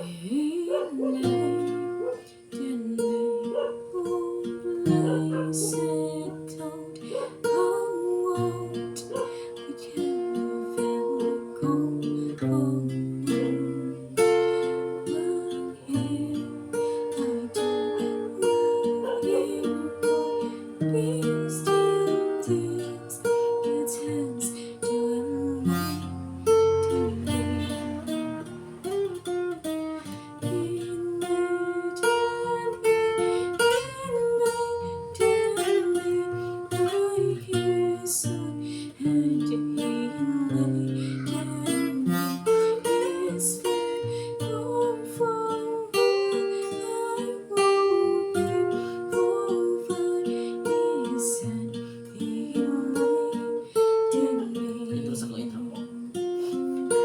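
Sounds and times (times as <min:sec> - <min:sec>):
acoustic guitar instrumental music: 0:00.0 - 0:57.0.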